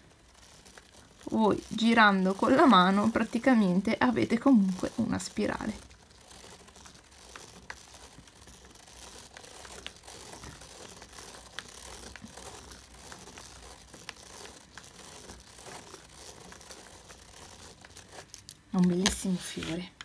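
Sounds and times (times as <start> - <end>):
pen scratching on paper: 0.4 - 19.8.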